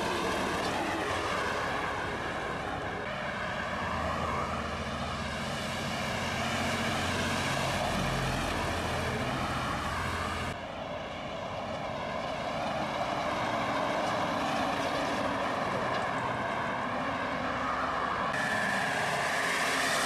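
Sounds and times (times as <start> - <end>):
diesel truck approaching: 0.0 - 20.0
diesel truck passing: 0.0 - 20.0.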